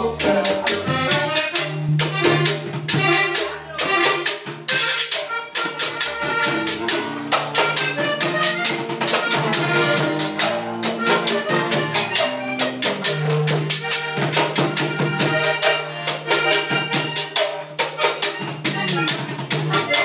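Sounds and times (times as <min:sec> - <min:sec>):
button accordion melody: 0:00.0 - 0:20.0
electric bass guitar: 0:00.0 - 0:20.0
steady percussion beat: 0:00.0 - 0:20.0.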